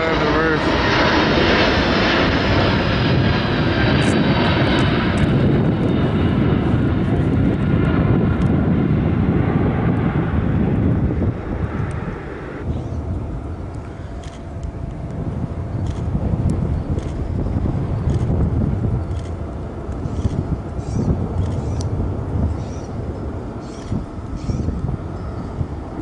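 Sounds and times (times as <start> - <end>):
jet plane passing overhead: 0.0 - 26.0.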